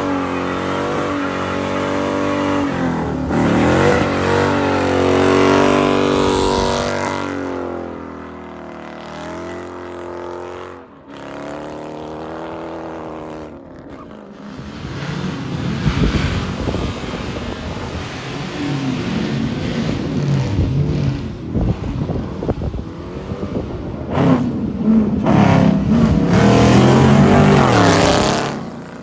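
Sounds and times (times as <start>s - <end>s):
vehicle exhaust revving: 0.0s - 29.0s.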